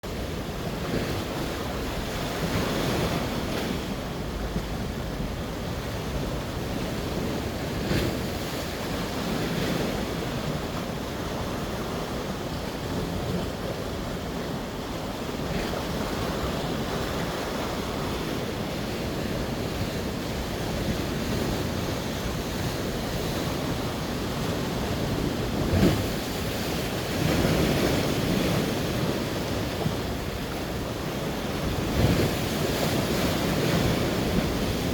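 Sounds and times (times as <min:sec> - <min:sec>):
sea surf washing in: 0:00.0 - 0:34.9
wind rumbling on microphone: 0:00.0 - 0:34.9.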